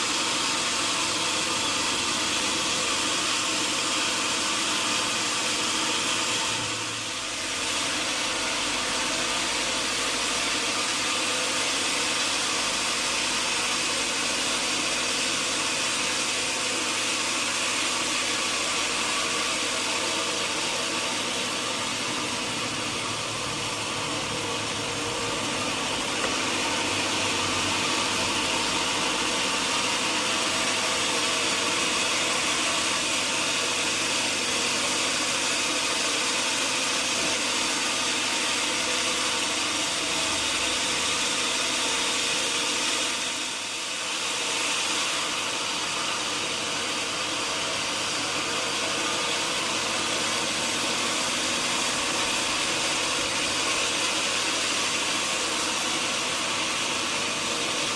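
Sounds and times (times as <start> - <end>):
sawmill machinery whirring: 0.0 - 57.9.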